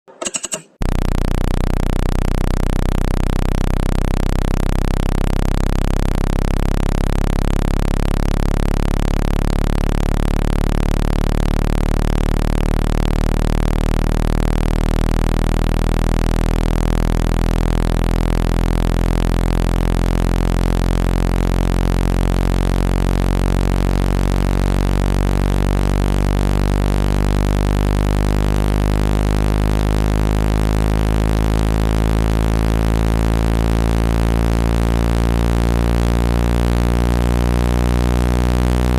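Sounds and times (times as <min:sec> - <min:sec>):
loud low hum: 0:00.3 - 0:38.9.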